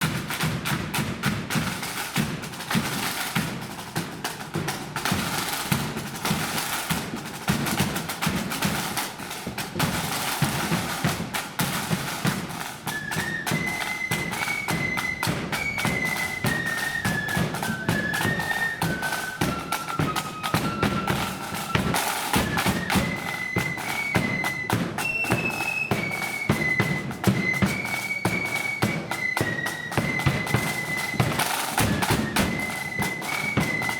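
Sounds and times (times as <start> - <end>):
snare and bass drums marching: 0.0 - 33.9
flutes playing a melody: 1.5 - 33.9.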